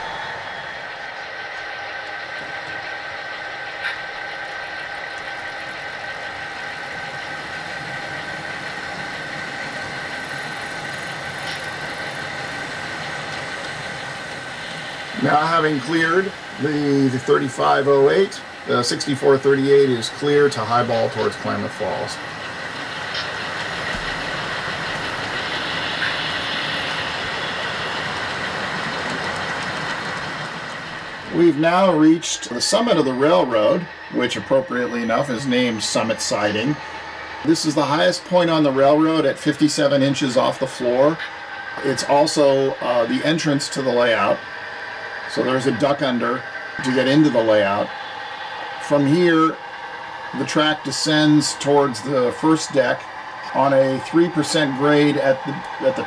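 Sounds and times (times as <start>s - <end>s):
diesel locomotive engine running: 0.0s - 56.0s
model trains rumbling past: 0.0s - 56.0s.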